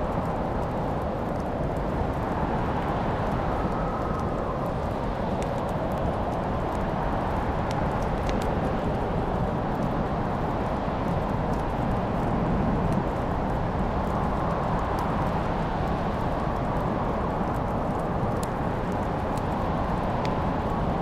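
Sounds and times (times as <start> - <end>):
fire crackling and popping: 0.0 - 21.0
low rushing fire noise: 0.0 - 21.0.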